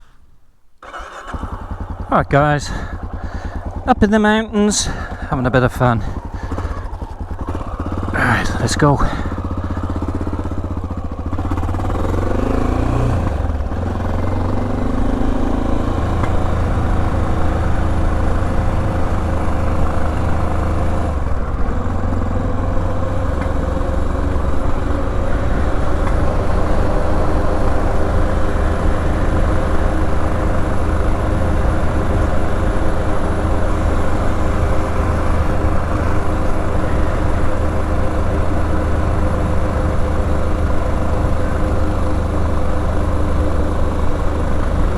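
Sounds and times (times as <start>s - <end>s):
motorcycle engine revving: 0.8s - 44.9s.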